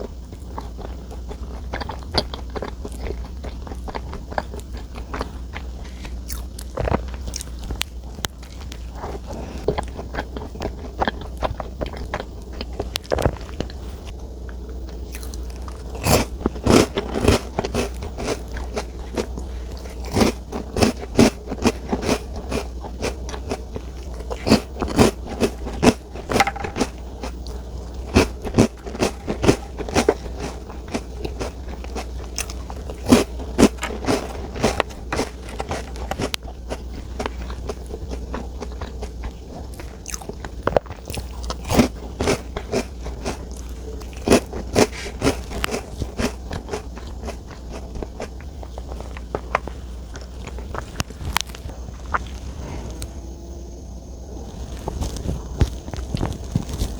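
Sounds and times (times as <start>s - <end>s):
crunchy crackling clicks: 0.0s - 56.9s
person chewing: 0.0s - 56.9s.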